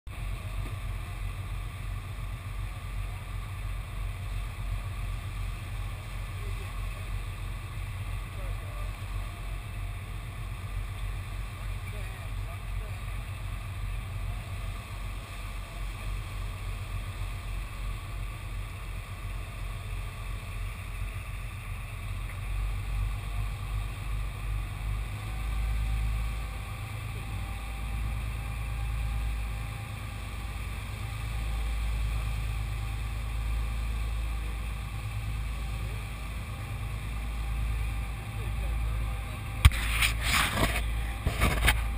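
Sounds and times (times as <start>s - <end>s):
boat engine drone: 0.1s - 41.9s.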